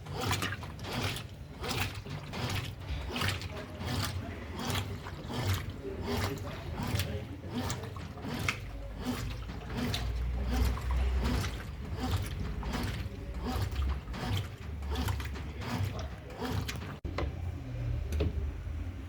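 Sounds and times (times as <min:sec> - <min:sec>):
low motor hum: 0:00.0 - 0:19.0
washing machine water sloshing: 0:00.0 - 0:19.0.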